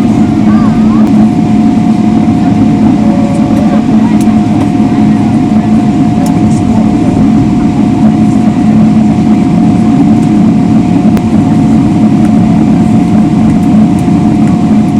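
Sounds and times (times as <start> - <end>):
aircraft cabin engine rumble: 0.0 - 14.9
thin steady whine: 0.0 - 14.9.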